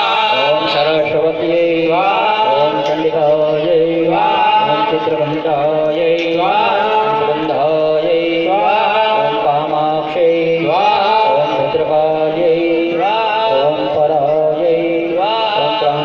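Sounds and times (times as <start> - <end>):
chanting of mantras: 0.0 - 16.0.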